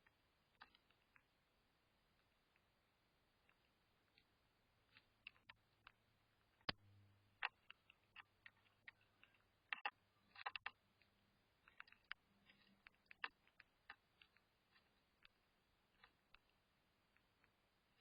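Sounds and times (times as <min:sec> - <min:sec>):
faint clicks and taps: 0:00.0 - 0:18.0.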